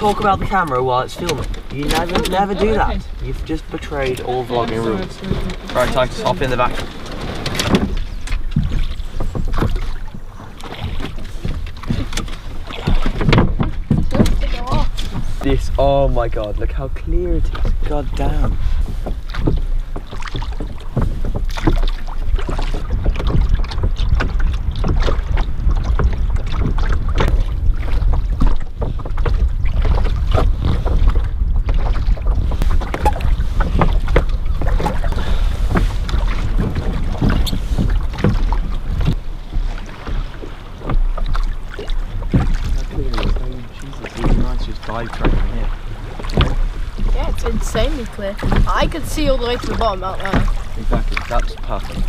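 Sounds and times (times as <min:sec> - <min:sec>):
oars knocking in oarlocks: 0:00.0 - 0:15.6, 0:16.3 - 0:52.0
oars splashing in water: 0:00.0 - 0:52.0
wind buffeting microphone: 0:00.0 - 0:52.0.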